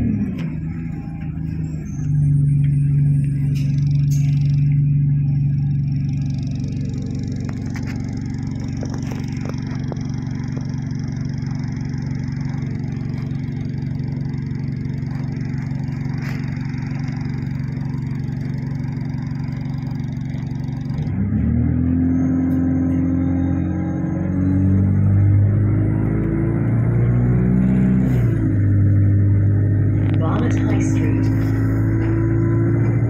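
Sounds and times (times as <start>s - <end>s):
bus engine drone: 0.0s - 33.0s
road noise: 0.0s - 33.0s.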